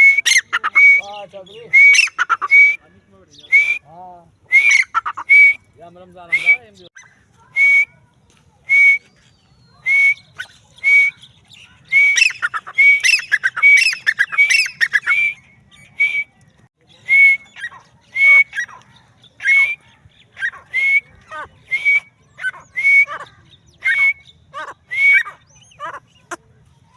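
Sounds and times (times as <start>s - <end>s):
francolin calling: 0.0s - 5.7s, 9.8s - 26.4s.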